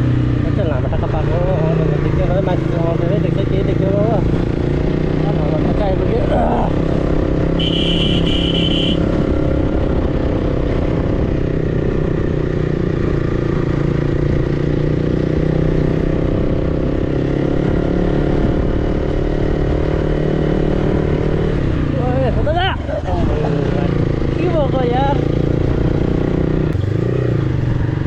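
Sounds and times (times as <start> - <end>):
motorcycle engine running: 0.0 - 28.0
road and wind noise: 0.0 - 28.0.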